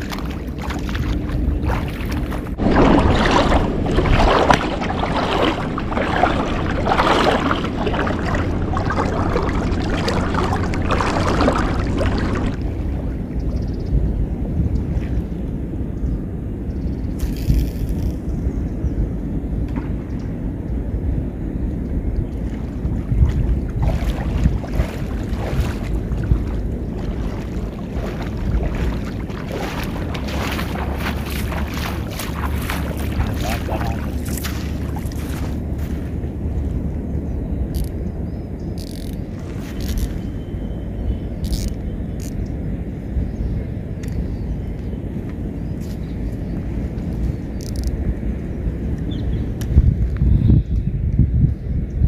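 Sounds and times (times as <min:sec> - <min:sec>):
water noise: 0:00.0 - 0:50.3
steady low rumble: 0:00.0 - 0:52.0
wind gusts on microphone: 0:00.0 - 0:52.0.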